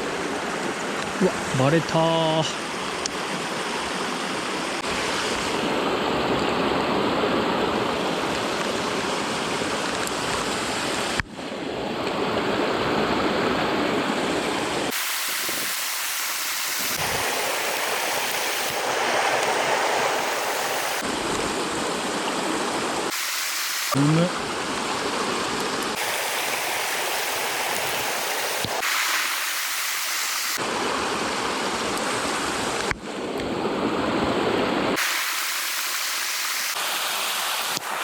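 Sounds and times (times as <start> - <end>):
mountain stream rushing: 0.0 - 38.0.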